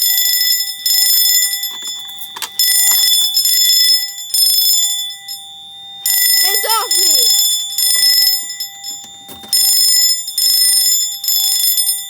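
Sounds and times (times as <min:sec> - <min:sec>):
fire alarm bells ringing: 0:00.0 - 0:12.0.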